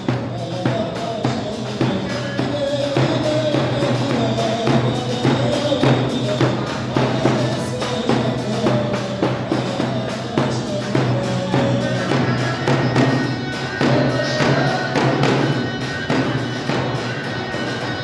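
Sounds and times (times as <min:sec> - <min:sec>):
driving drum beat: 0:00.0 - 0:18.0.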